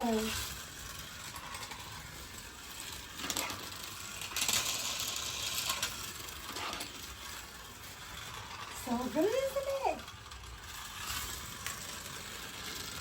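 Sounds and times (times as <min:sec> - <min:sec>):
mechanical clicking and whirring: 0:00.0 - 0:13.0.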